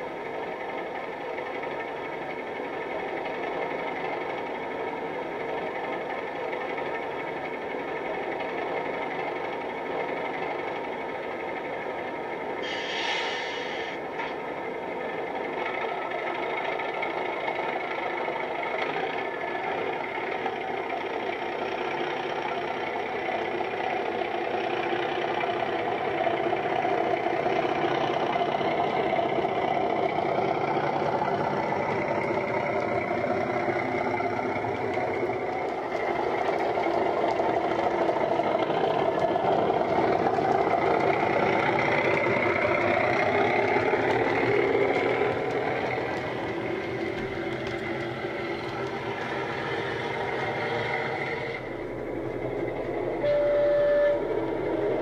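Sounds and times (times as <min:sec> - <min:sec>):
model train diesel engine sound: 0:00.0 - 0:55.0.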